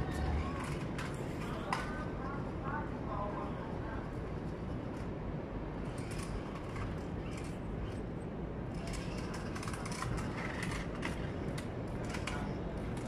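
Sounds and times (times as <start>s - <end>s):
steady low city rumble: 0.0s - 13.0s.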